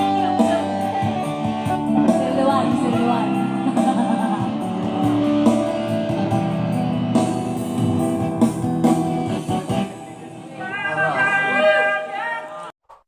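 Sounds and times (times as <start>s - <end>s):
instrumental guitar music: 0.0s - 10.7s.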